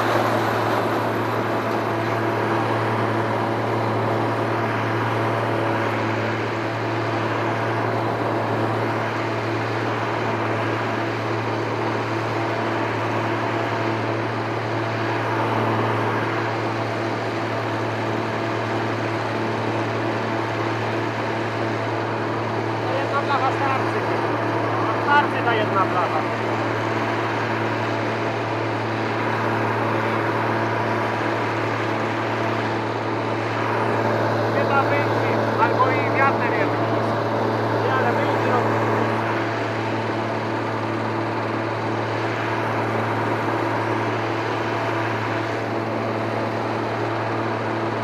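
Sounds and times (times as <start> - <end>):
low engine hum: 0.0 - 48.0.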